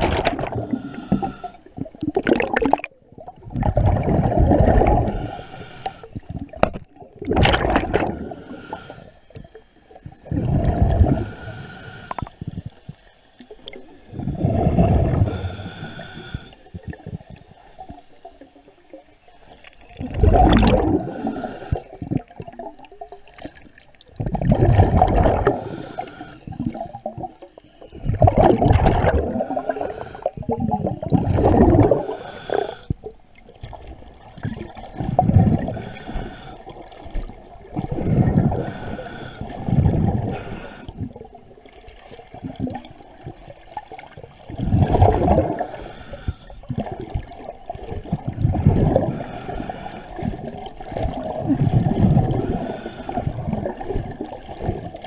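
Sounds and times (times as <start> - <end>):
underwater bubbling and gurgling: 0.0 - 55.0.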